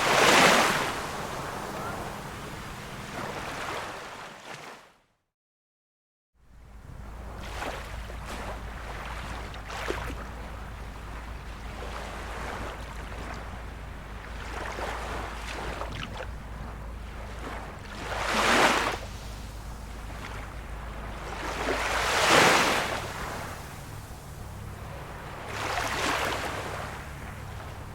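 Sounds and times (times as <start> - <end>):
wave breaking: 0.0 - 4.7, 7.0 - 27.9
sea waves lapping on shore: 0.0 - 4.9, 6.5 - 27.9.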